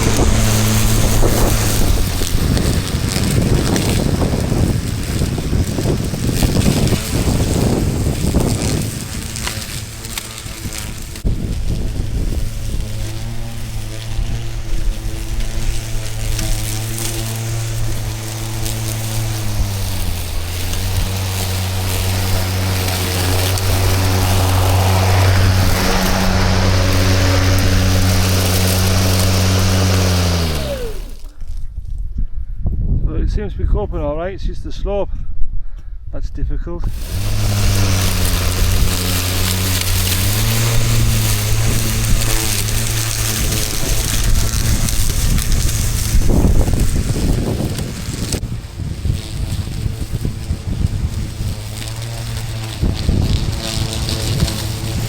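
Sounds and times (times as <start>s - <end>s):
lawn mower cutting grass: 0.0s - 31.6s, 36.8s - 55.0s
wind rumbling on microphone: 0.0s - 55.0s.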